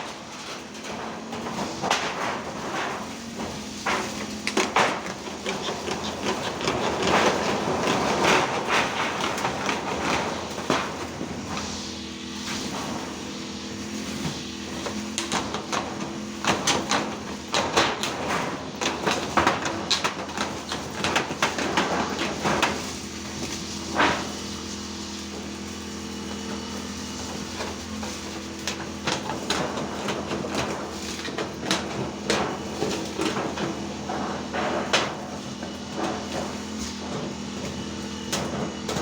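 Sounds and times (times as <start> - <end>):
construction knocks and clattering: 0.0 - 39.0
engine-like hum: 0.0 - 39.0.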